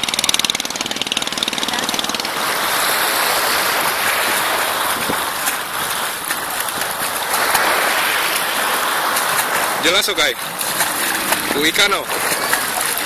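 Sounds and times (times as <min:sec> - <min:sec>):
water splashing and churning: 0:00.0 - 0:13.0
feet kicking at water surface: 0:01.6 - 0:13.0.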